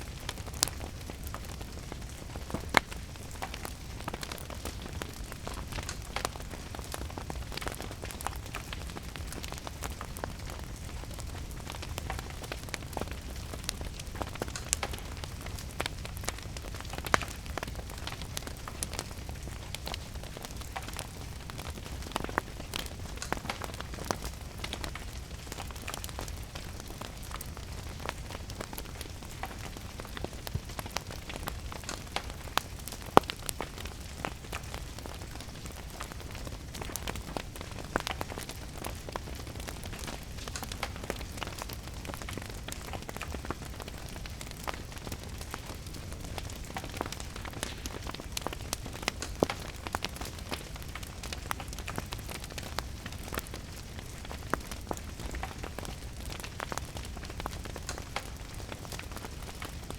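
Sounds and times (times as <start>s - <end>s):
rain pattering: 0.0s - 59.9s
wood fire crackling: 0.0s - 59.9s.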